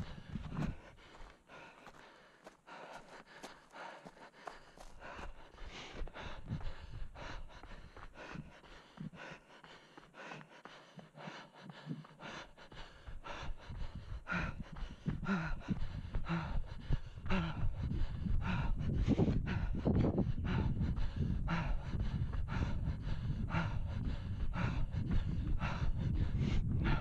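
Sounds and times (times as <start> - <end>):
runner breathing hard: 0.0 - 27.0.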